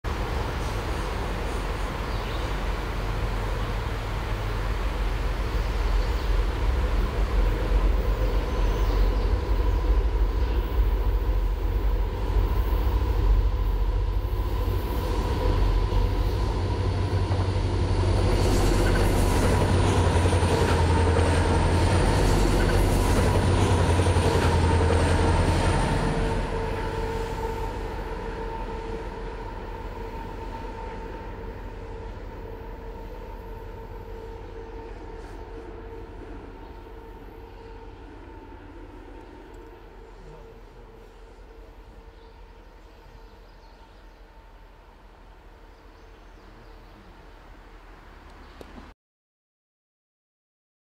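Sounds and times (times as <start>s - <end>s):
diesel locomotive engine rumble: 0.0s - 48.9s.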